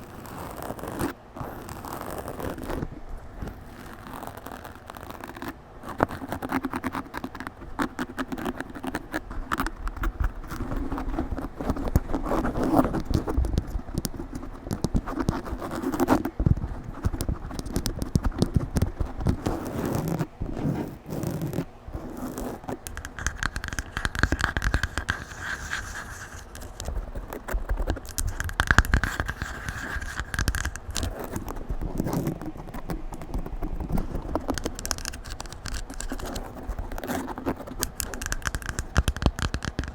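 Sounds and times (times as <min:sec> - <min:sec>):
microphone being scratched: 0:00.0 - 0:39.9.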